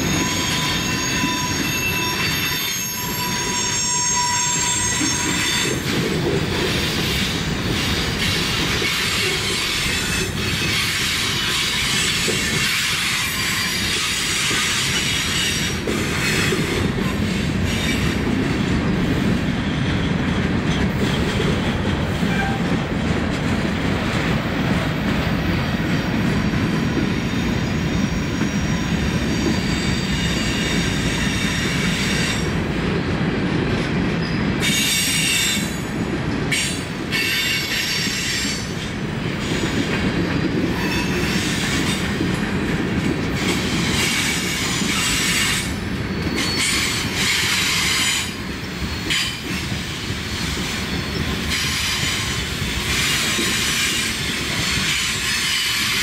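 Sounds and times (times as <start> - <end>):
wheels squealing on rails: 0.0 - 23.1, 24.2 - 32.7, 34.1 - 56.0
freight train wheels rumbling: 0.0 - 56.0.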